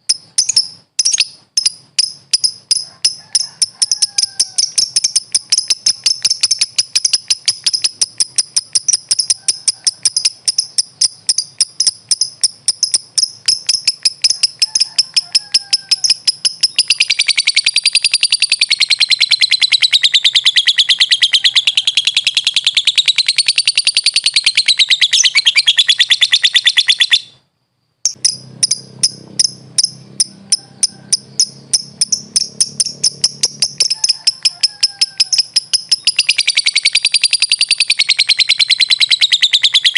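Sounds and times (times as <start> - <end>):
lovebird chattering trill: 0.0 - 27.4, 28.0 - 39.9
lovebird chirping: 0.0 - 39.9.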